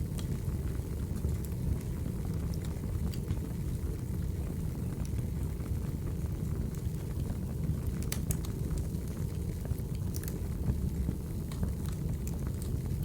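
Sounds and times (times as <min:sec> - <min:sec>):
fire crackles and pops: 0:00.0 - 0:13.0
firewood burning: 0:00.0 - 0:13.0.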